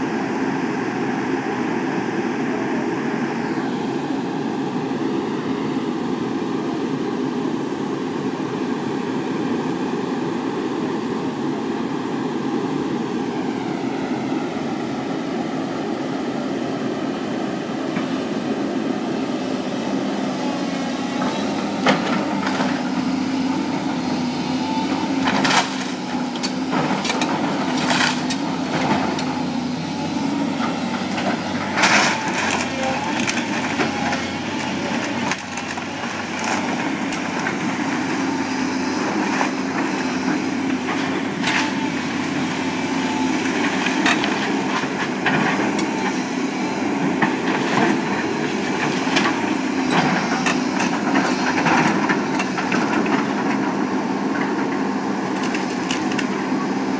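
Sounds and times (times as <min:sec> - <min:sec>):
heavy machine engine running: 0:00.0 - 0:56.9.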